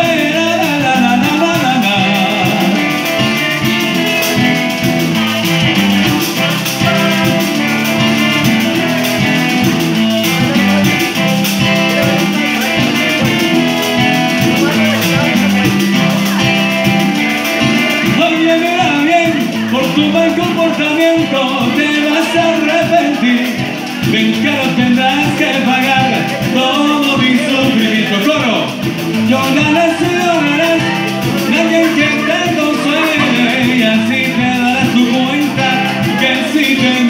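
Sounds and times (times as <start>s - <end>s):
acoustic guitar: 0.0s - 37.0s
steady percussion beats: 0.0s - 37.0s.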